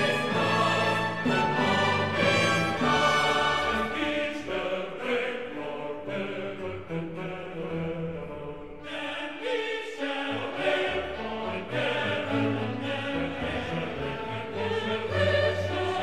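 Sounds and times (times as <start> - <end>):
slow choir-like singing: 0.0 - 16.0.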